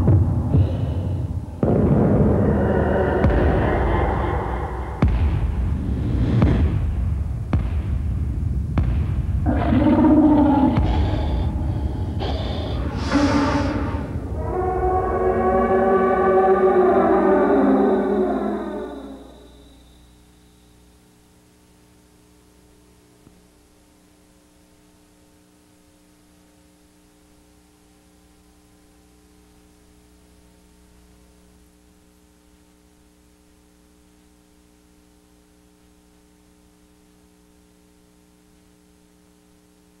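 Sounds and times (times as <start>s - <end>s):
electrical hum with hiss: 0.0s - 40.0s.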